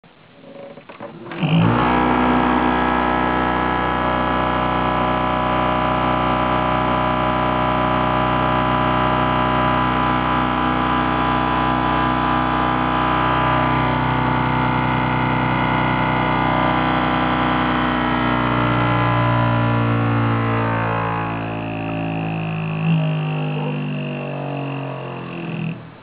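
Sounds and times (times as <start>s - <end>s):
computer fan droning: 1.5s - 26.0s.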